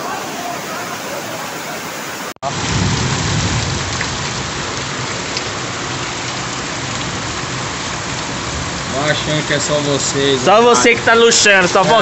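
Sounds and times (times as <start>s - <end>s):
heavy rain pouring on street: 0.0s - 12.0s.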